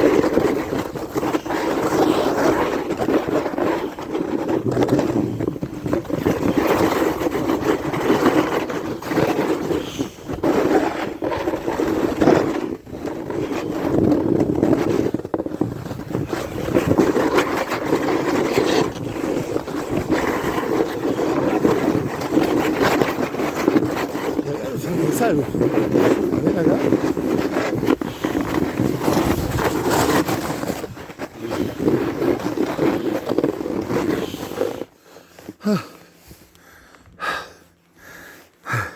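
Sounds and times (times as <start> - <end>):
wind buffeting microphone: 0.0 - 34.7
edges scraping over snow: 0.0 - 36.4.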